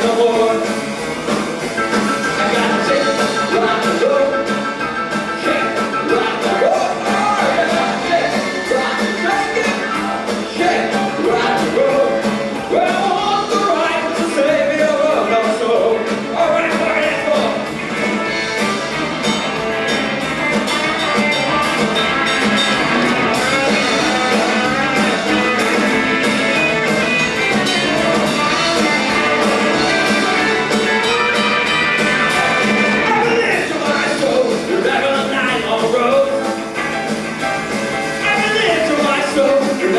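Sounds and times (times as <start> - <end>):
person singing: 0.0 - 0.9, 2.2 - 4.7, 5.3 - 20.0, 22.5 - 36.6, 38.2 - 39.9
drum kit beat: 0.0 - 39.9
electric guitar: 0.0 - 39.9.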